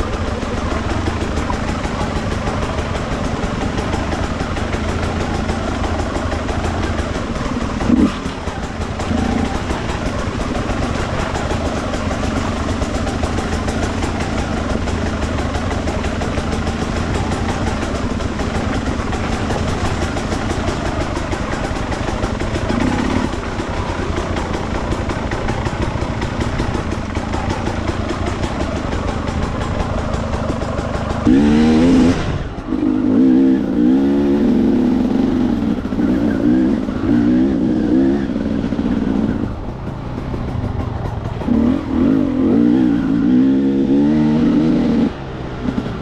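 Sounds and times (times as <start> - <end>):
dirt bike engine at low revs: 0.0 - 46.0.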